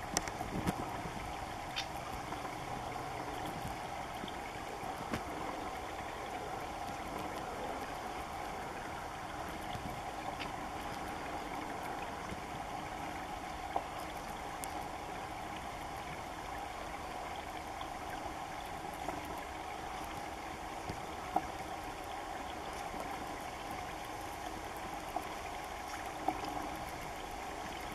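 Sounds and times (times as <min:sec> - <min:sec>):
faint hum: 0:00.0 - 0:27.9.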